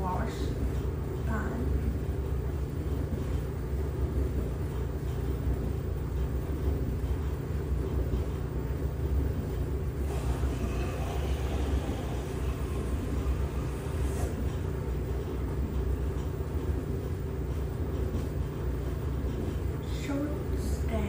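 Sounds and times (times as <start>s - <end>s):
washing machine rumbling: 0.0s - 21.0s.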